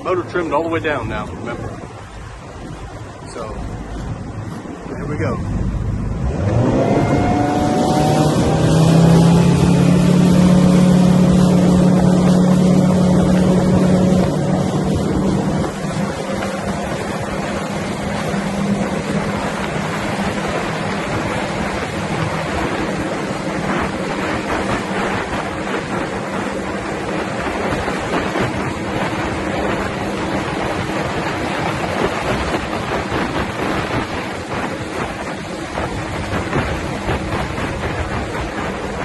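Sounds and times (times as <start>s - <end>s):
boat motor drone: 0.0s - 39.0s
water along hull: 0.0s - 39.0s
wind on microphone: 0.0s - 39.0s.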